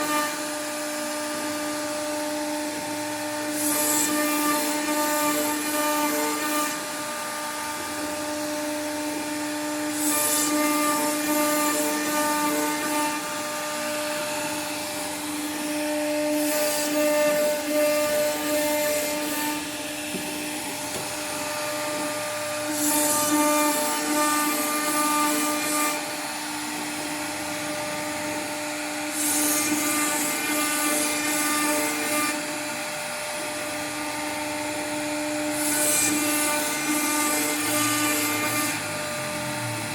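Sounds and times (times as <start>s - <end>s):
router bit cutting wood: 0.0s - 39.9s
router spindle whine: 0.0s - 39.9s.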